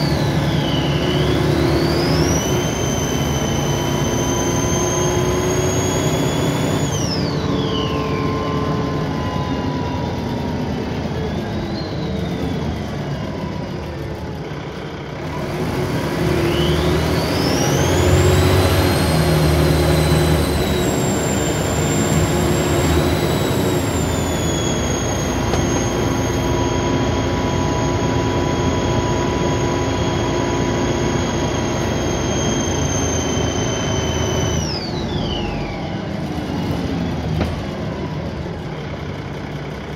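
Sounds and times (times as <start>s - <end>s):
bus diesel engine rumble: 0.0s - 39.9s
high turbo whine: 0.0s - 39.9s.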